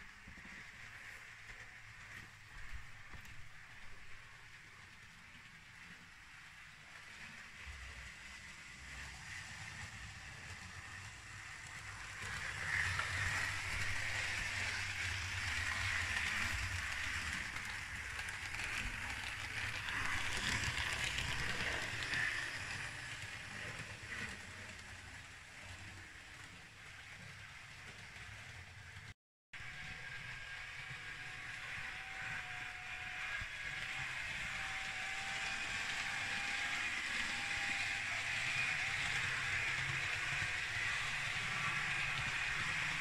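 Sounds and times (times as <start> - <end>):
model train motor hum: 0.0 - 29.0, 29.6 - 43.0
wheels rolling on rails: 0.0 - 43.0.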